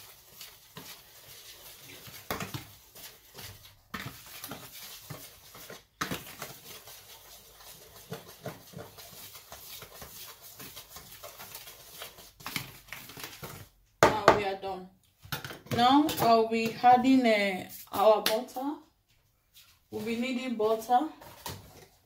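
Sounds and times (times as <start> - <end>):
utensil stirring flour in plastic bowl: 0.0 - 14.8, 15.6 - 18.6, 19.5 - 22.0.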